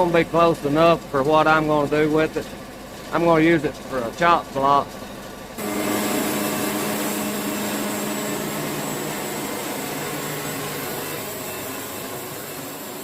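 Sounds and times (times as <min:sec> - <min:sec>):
band sawmill engine hum: 0:00.0 - 0:13.0.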